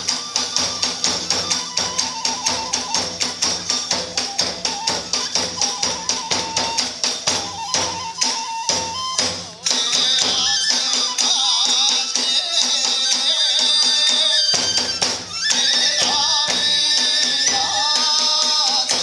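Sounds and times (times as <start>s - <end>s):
drums beating: 0.0s - 19.0s
hand cymbals: 0.0s - 19.0s
high bamboo flute melody: 0.0s - 19.0s.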